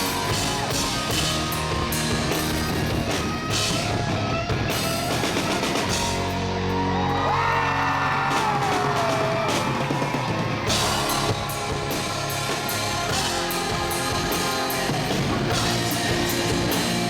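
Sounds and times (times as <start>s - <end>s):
electric guitar melody sliding: 0.0s - 7.4s, 10.4s - 17.0s
drums: 0.0s - 17.0s.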